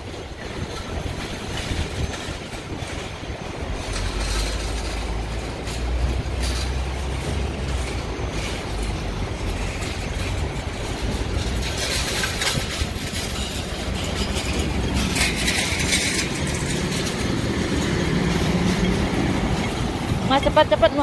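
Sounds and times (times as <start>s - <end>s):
car and truck engines running: 0.0s - 21.0s
vehicles passing: 0.0s - 21.0s.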